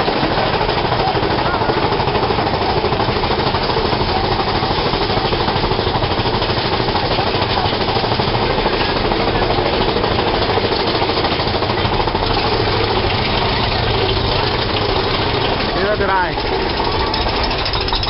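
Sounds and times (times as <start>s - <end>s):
roller coaster rattling along track: 0.0s - 18.0s.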